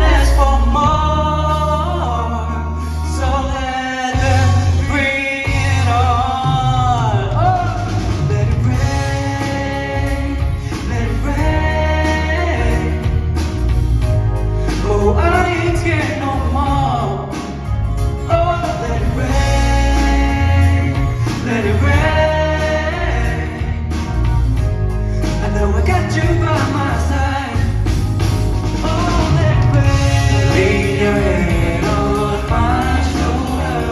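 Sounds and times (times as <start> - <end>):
band with heavy bass line: 0.0 - 33.9
men singing pop song live: 0.0 - 33.9.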